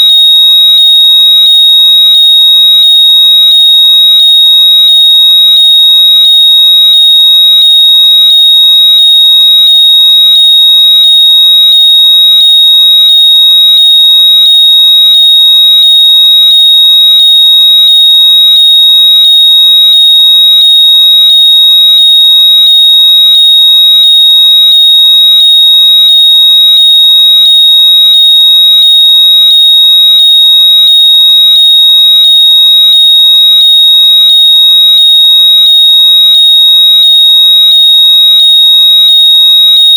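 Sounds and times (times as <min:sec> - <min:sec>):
pulsing high-pitched electronic tone: 0:00.0 - 0:39.9.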